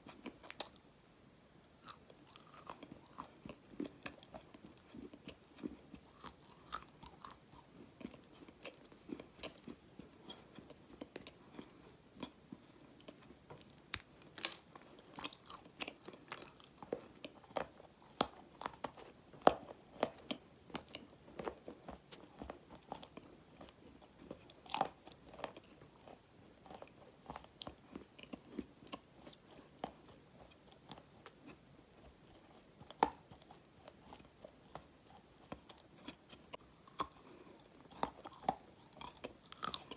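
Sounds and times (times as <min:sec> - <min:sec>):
chewing dry clay crunches: 0:01.6 - 0:39.9.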